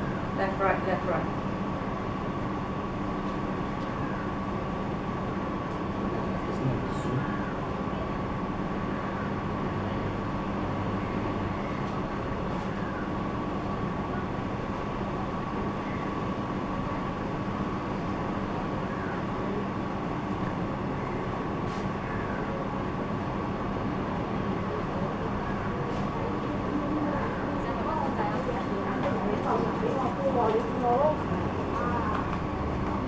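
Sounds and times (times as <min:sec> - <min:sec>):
background hum and rumble: 0:00.0 - 0:33.0.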